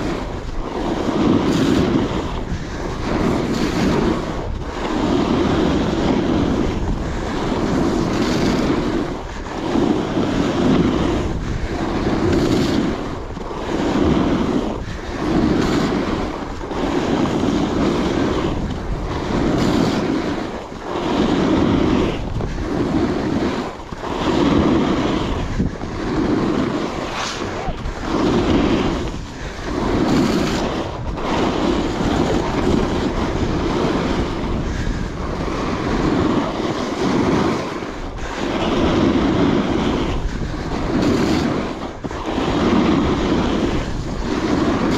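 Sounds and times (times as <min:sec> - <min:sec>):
snowboard edge hissing on snow: 0:00.0 - 0:44.9
wind buffeting microphone: 0:00.0 - 0:44.9.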